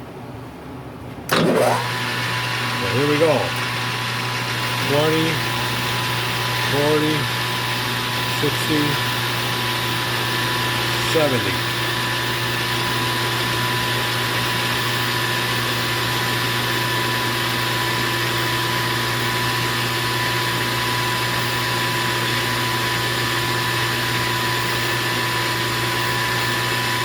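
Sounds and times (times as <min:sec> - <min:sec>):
lathe motor humming: 0:01.3 - 0:27.0.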